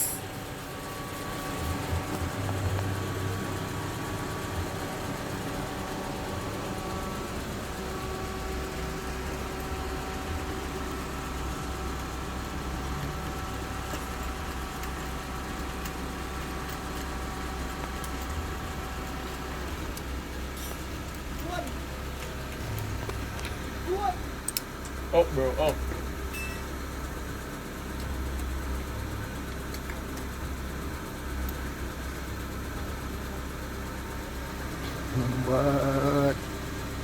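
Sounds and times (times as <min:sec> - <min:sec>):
motorcycle engine idling with misfire: 0:00.0 - 0:37.0.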